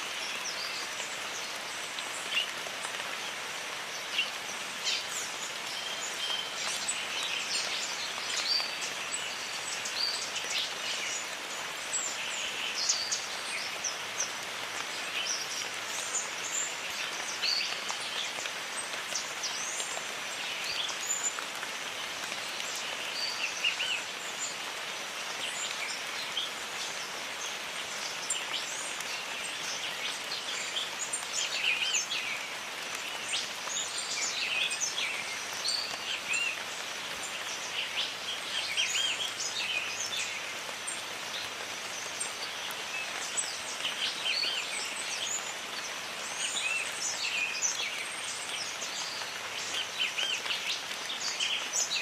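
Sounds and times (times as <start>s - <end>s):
small birds chirping: 0.0s - 52.0s
steady rain falling: 0.0s - 52.0s.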